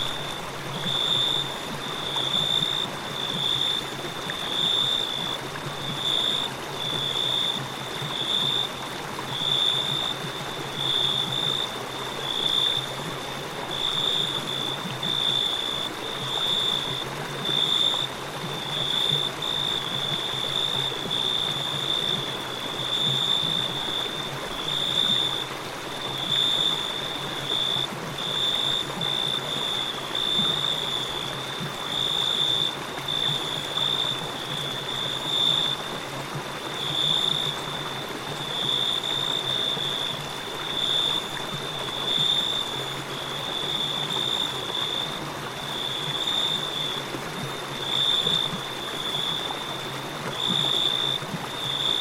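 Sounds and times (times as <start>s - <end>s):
crickets chirping: 0.0s - 52.0s
river water rushing: 0.0s - 52.0s.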